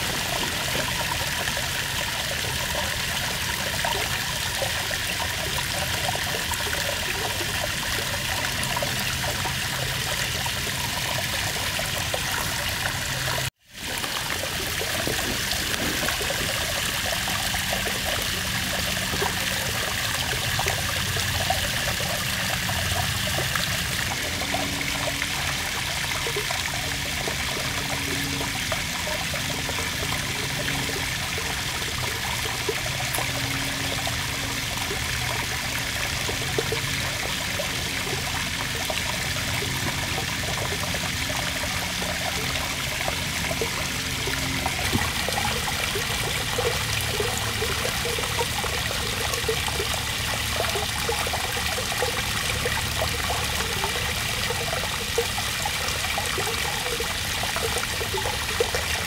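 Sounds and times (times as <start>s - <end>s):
small waterfall splashing into pool: 0.0s - 59.0s.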